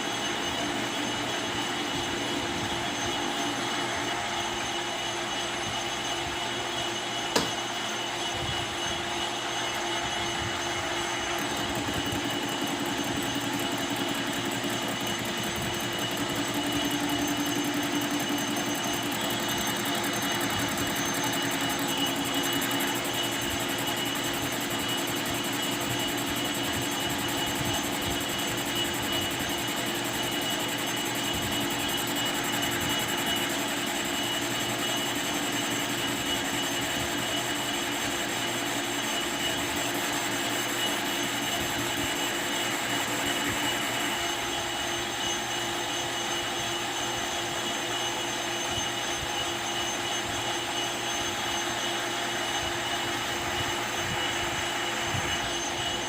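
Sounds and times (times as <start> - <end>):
metal lathe whine: 0.0 - 56.0.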